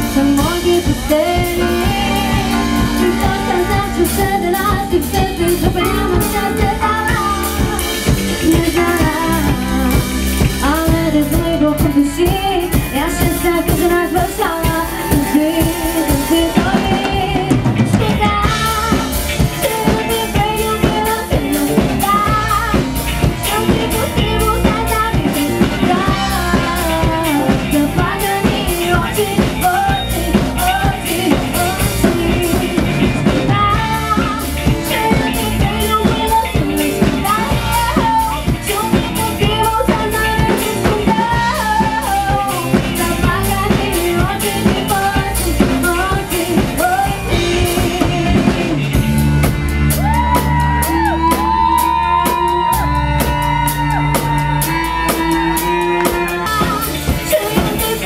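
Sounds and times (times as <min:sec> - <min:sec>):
lead guitar melody bending: 0:00.0 - 0:58.0
live rock band playing: 0:00.0 - 0:58.0.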